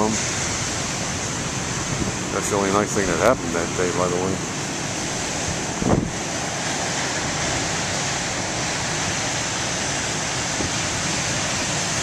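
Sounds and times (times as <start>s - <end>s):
ocean surf: 0.0s - 12.0s
wind on microphone: 0.0s - 12.0s.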